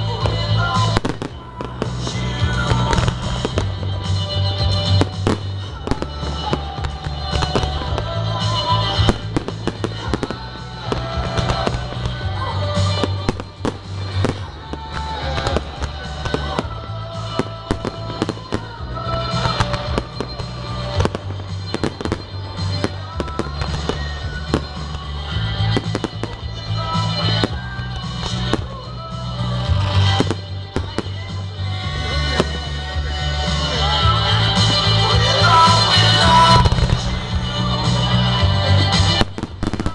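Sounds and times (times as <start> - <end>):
fireworks bursting: 0.0 - 39.9
music playing: 0.0 - 39.9.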